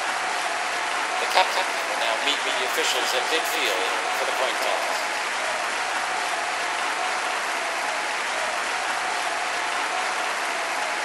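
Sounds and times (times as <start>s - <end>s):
crowd clapping and murmuring: 0.0s - 11.0s.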